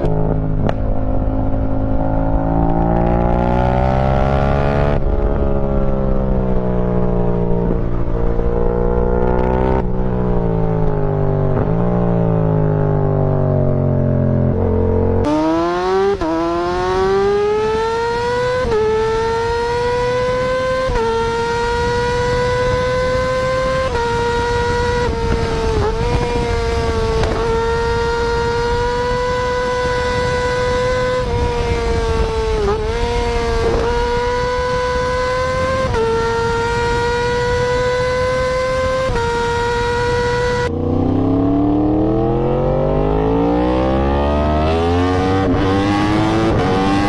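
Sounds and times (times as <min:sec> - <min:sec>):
deep motorcycle engine: 0:00.0 - 0:47.0.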